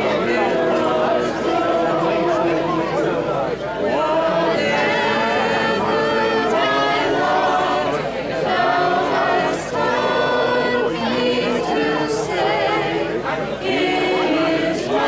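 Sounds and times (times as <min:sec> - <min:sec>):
women singing a hymn a cappella: 0:00.0 - 0:15.0.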